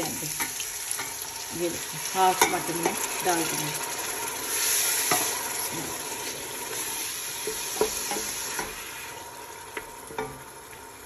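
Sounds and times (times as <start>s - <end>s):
sauce sizzling in oil: 0.0s - 11.0s.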